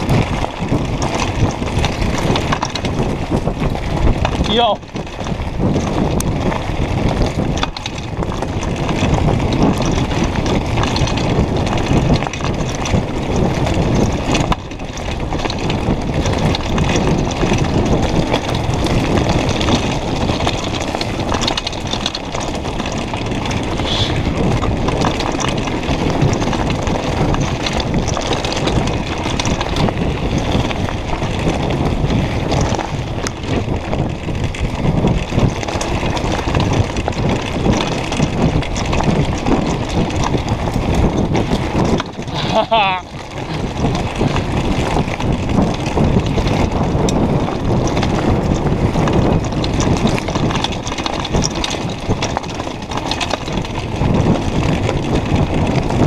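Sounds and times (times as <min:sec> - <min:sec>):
bike clattering over bumps: 0:00.0 - 0:56.0
bike tyres crunching on gravel: 0:00.0 - 0:56.0.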